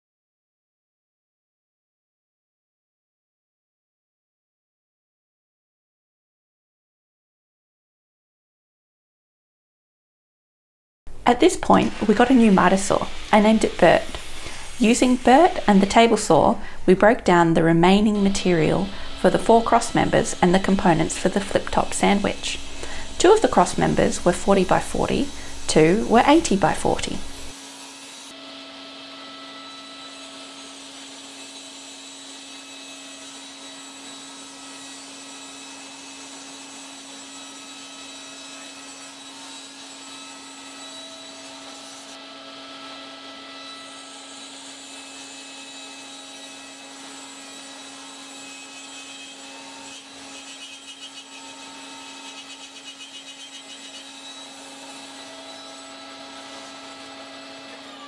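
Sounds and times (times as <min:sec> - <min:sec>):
table saw running: 0:11.1 - 0:58.0.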